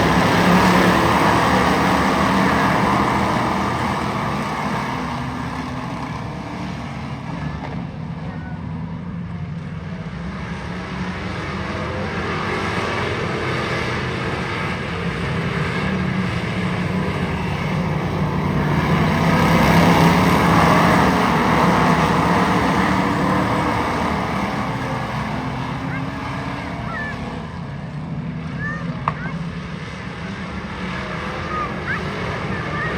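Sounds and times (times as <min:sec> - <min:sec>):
race car engines droning: 0:00.0 - 0:32.9.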